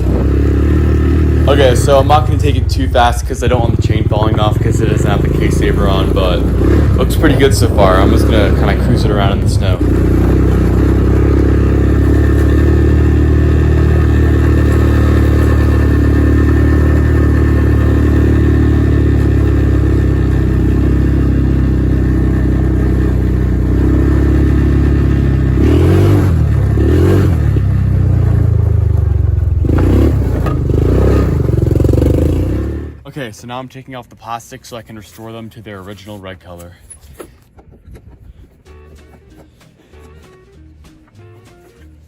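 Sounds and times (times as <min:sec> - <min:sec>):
atv engine running: 0:00.0 - 0:33.3, 0:36.9 - 0:42.0.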